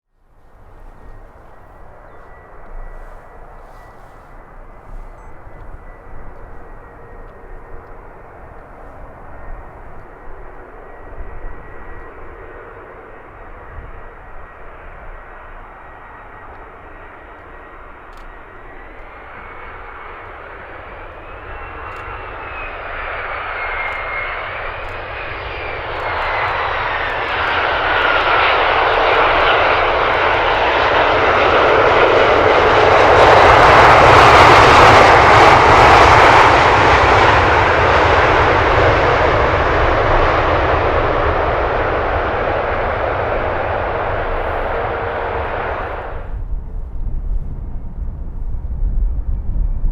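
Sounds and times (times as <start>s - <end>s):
high wavering whine: 0.2s - 48.1s
jet engine noise passing: 0.2s - 49.9s.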